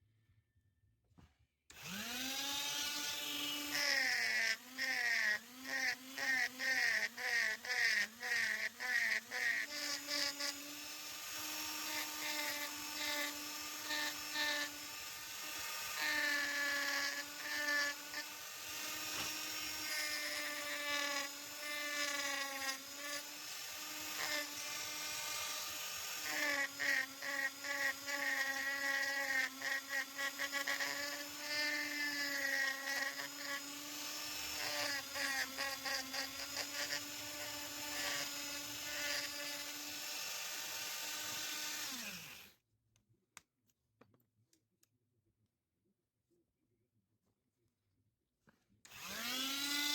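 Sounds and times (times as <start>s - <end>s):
rotary tool working wood: 1.7s - 42.5s, 48.9s - 49.9s.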